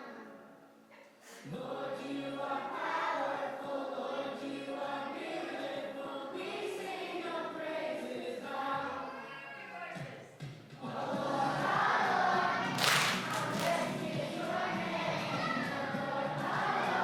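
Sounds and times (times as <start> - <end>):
group of voices singing: 1.3 - 9.3, 10.7 - 17.0.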